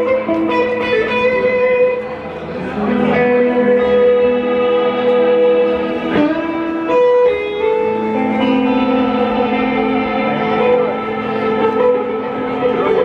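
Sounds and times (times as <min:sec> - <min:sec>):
live band with electric guitars: 0:00.0 - 0:13.0.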